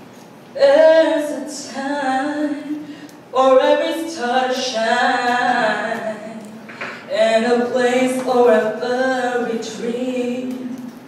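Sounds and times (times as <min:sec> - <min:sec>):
woman singing unaccompanied: 0:00.6 - 0:11.0.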